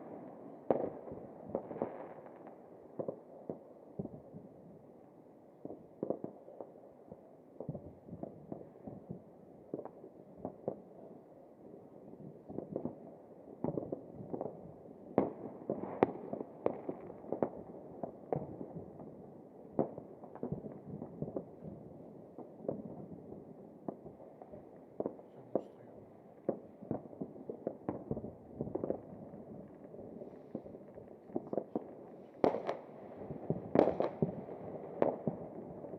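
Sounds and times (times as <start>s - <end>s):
fireworks and firecrackers banging: 0.0s - 35.9s.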